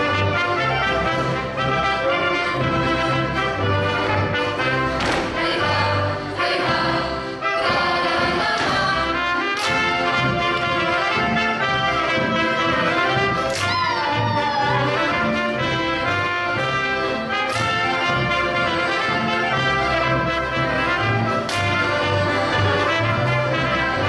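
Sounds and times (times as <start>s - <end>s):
brass band playing folk dance: 0.0s - 24.0s.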